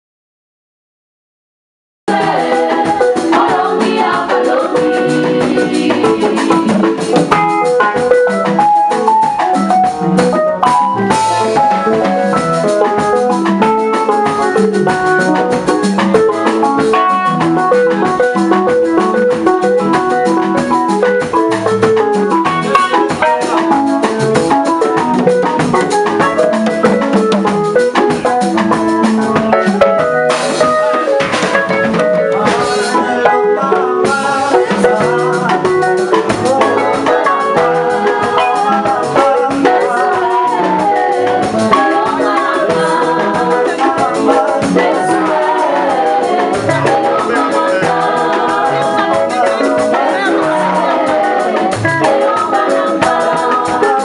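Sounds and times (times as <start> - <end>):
drums and instrumental backing: 2.1 - 54.0
gospel choir singing: 2.1 - 54.0.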